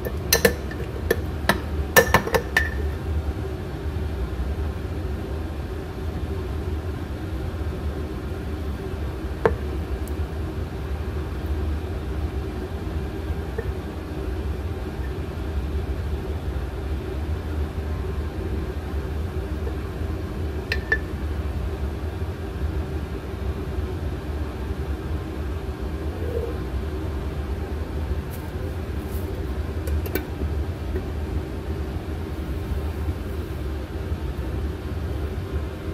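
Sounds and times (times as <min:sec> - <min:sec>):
low background hum: 0:00.0 - 0:35.9.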